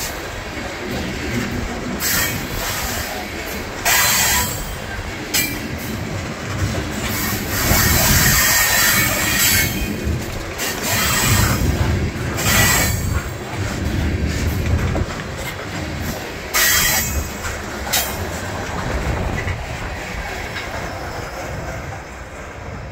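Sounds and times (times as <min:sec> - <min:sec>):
train wheels rumbling and clattering: 0:00.0 - 0:22.9.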